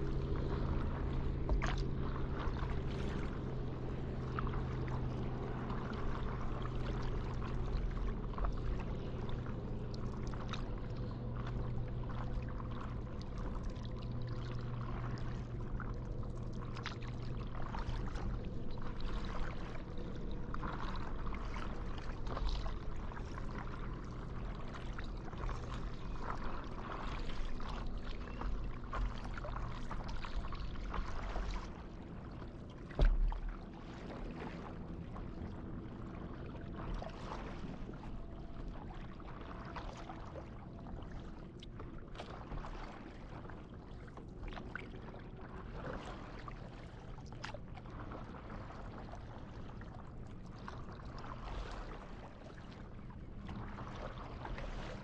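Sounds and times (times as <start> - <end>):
water lapping and splashing: 0.0 - 55.0
paddle splashes: 0.1 - 55.0.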